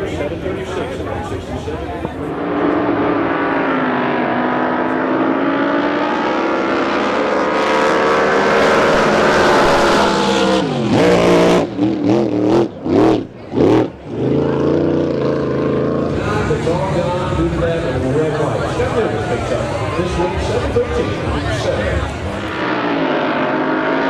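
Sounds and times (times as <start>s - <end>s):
racing boat engine revving: 1.8s - 24.0s.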